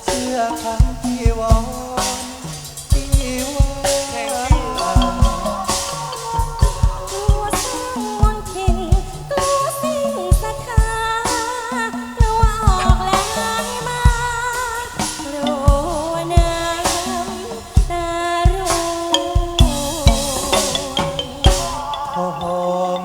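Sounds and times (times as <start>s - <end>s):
band accompaniment: 0.0s - 23.0s
person singing melody: 0.0s - 23.0s
regular drum beats: 0.0s - 23.0s.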